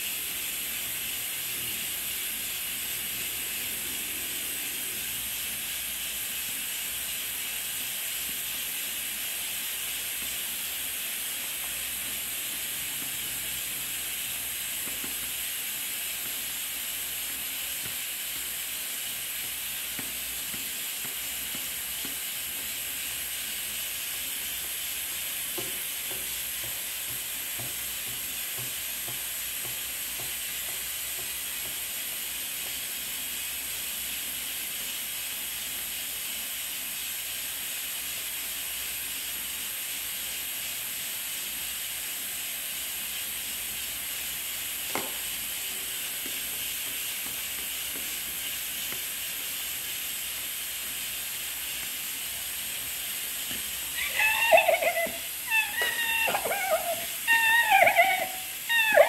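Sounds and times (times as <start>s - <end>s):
steady hiss: 0.0s - 58.8s.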